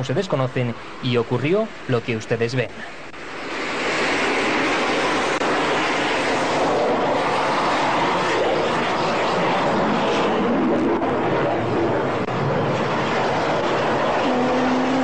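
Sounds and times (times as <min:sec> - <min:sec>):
jet engine rushing noise: 0:00.0 - 0:15.0.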